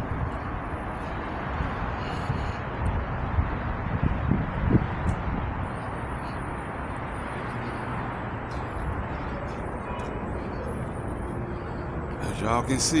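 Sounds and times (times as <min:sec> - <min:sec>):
passing traffic rush: 0:00.0 - 0:13.0.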